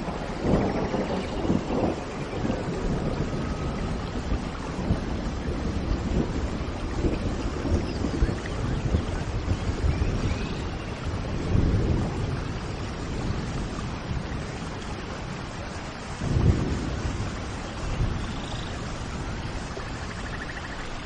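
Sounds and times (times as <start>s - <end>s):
low thunder rumbles: 0.0s - 21.0s
steady rain: 0.0s - 21.0s.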